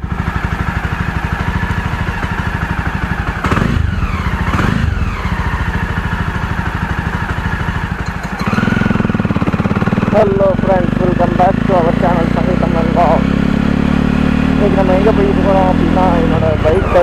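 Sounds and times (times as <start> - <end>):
motorcycle engine puttering: 0.0 - 17.0.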